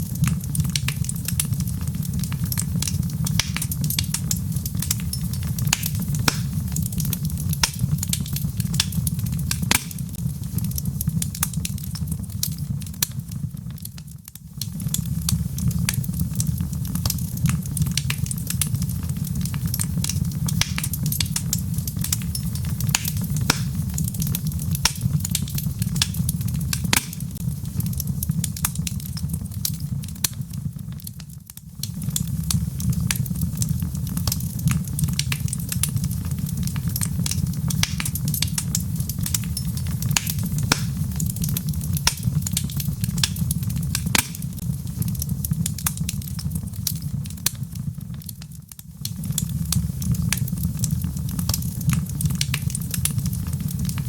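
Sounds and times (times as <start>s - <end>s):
fire low rumble: 0.0s - 54.0s
logs crackling and popping: 0.0s - 54.0s.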